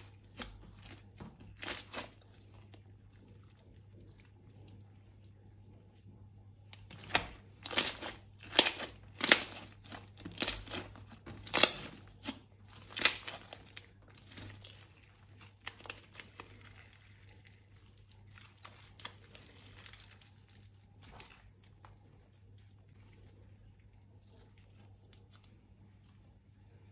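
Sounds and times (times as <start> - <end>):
crinkling and crunching handling: 0.0 - 26.5.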